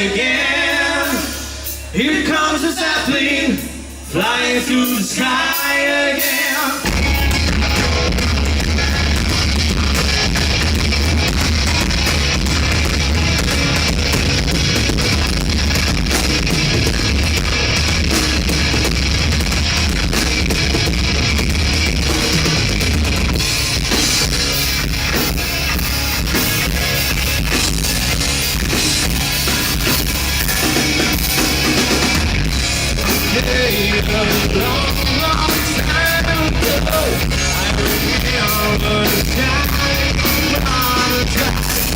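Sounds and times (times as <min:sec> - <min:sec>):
electric guitar: 0:00.0 - 0:41.9
rock band playing: 0:00.0 - 0:41.9.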